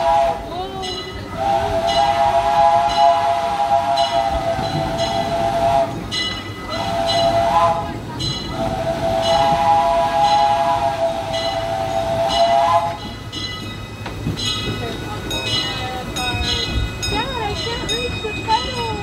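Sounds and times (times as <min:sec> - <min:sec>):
steam locomotive chime whistle: 0:00.0 - 0:19.0.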